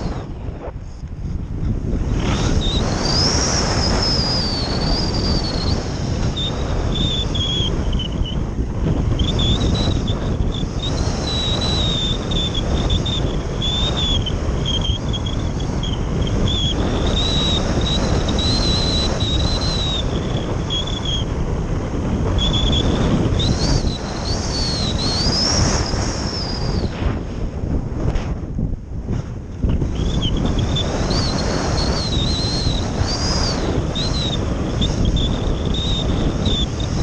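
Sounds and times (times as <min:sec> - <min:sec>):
high airflow whistle: 0:00.0 - 0:37.0
wind buffeting camera: 0:00.0 - 0:37.0.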